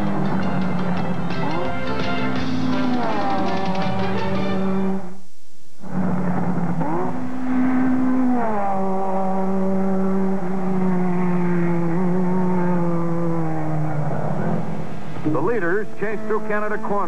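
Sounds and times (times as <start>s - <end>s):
racing car engines at high revs: 0.0s - 5.2s, 5.8s - 17.0s.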